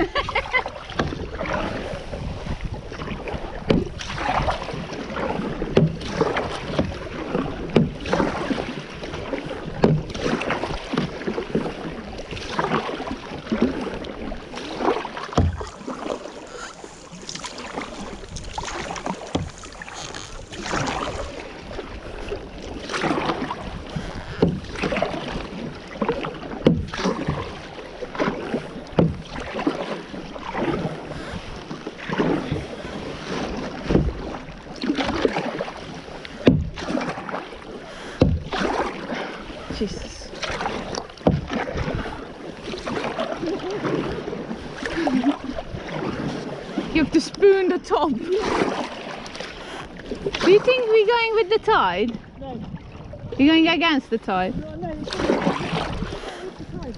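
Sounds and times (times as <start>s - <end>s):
paddle splashing in water: 0.0s - 56.9s
water lapping along hull: 0.0s - 56.9s.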